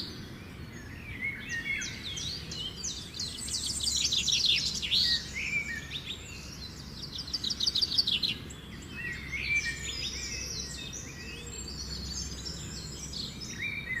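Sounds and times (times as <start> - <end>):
robin singing: 0.0 - 14.0.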